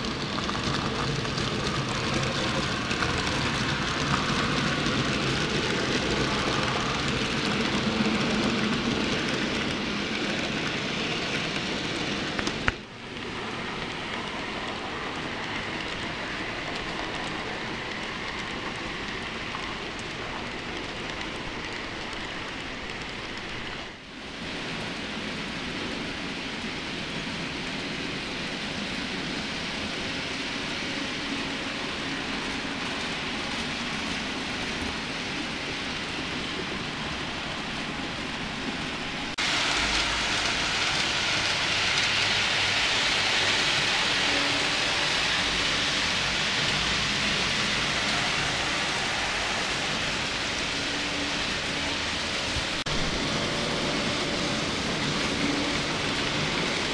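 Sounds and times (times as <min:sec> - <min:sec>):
model trains whirring on rails: 0:00.0 - 0:56.9.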